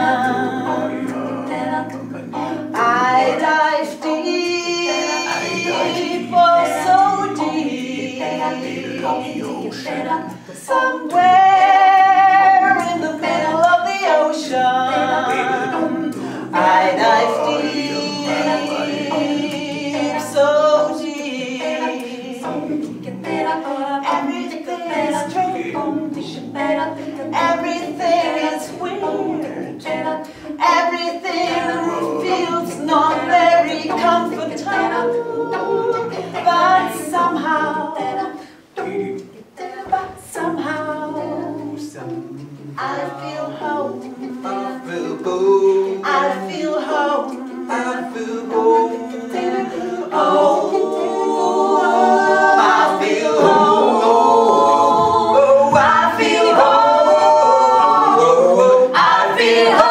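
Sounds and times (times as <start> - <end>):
a cappella vocal quartet: 0.0 - 59.9.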